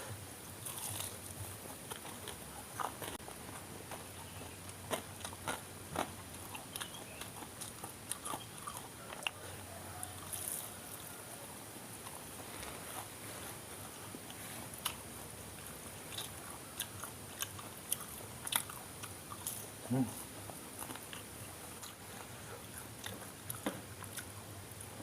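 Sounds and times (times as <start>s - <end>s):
biting and chewing: 0.1s - 25.0s.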